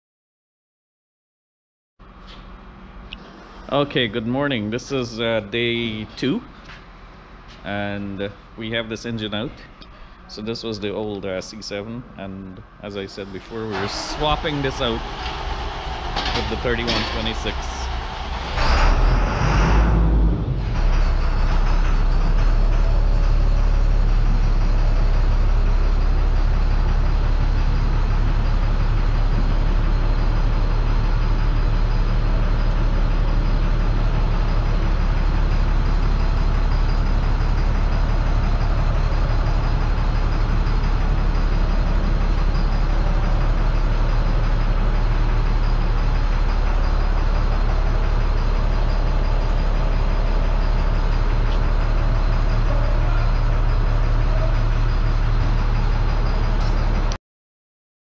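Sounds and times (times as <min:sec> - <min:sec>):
heavy motor droning: 0:02.0 - 0:57.2.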